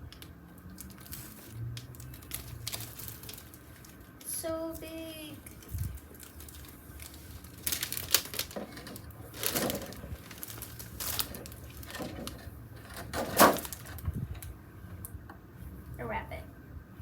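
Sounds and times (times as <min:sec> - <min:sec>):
packaging rustling and crinkling: 0:00.1 - 0:14.6.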